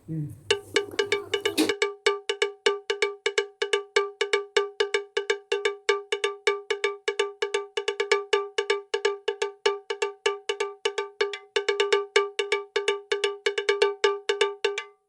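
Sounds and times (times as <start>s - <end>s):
rapid bell-like taps: 0.5s - 15.0s.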